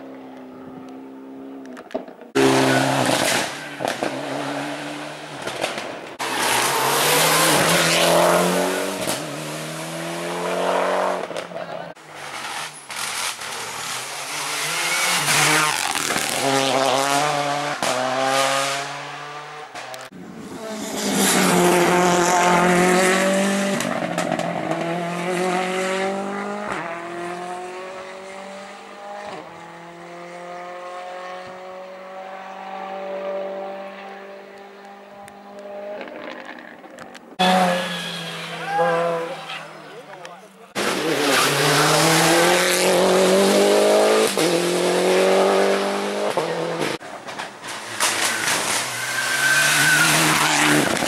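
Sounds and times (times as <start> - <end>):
rally car engines revving: 0.0 - 51.0
car passing loudly: 2.4 - 36.2, 37.4 - 47.0.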